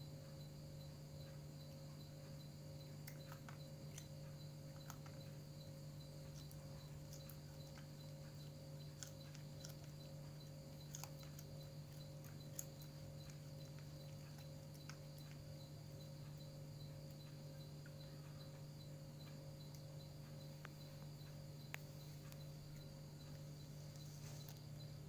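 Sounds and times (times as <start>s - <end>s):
steady low hum: 0.0s - 25.0s
cat chewing: 2.1s - 24.7s.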